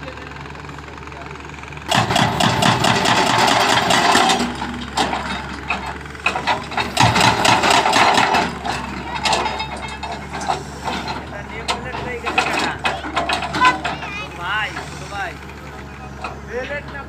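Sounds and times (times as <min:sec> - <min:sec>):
excavator engine running: 0:00.0 - 0:17.0
hydraulic breaker hammering: 0:01.9 - 0:17.0.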